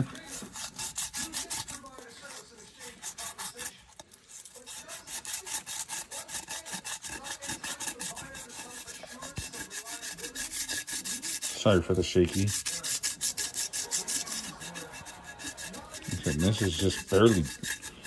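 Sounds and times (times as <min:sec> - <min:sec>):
foil scrubbing steel rim: 0:00.0 - 0:18.0.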